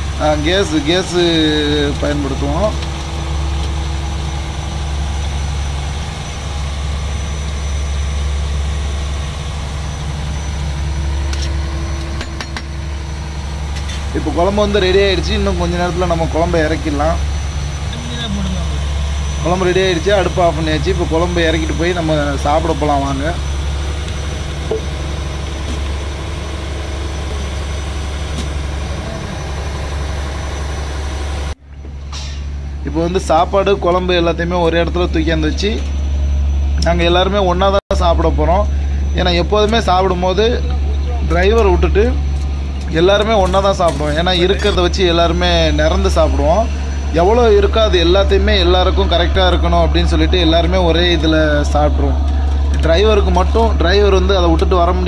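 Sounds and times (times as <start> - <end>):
boat diesel engine droning: 0.0 - 55.0.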